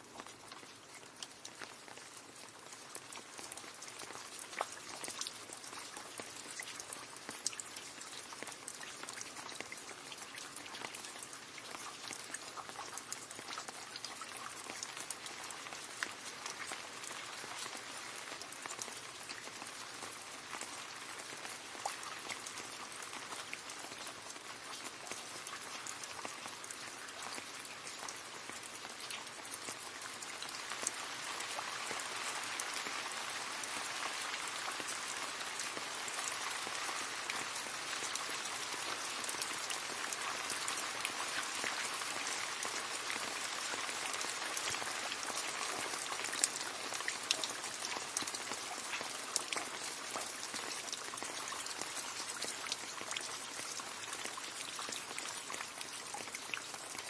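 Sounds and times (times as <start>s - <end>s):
rain splashing into a puddle: 0.0s - 57.0s.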